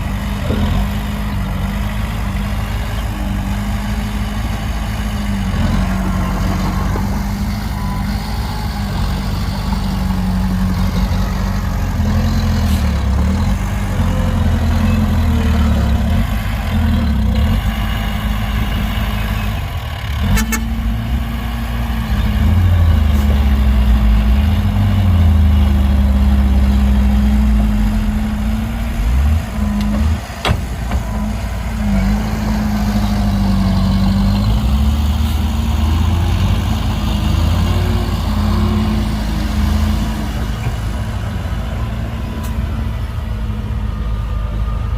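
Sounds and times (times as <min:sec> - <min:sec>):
heavy diesel engine under load: 0:00.0 - 0:44.9.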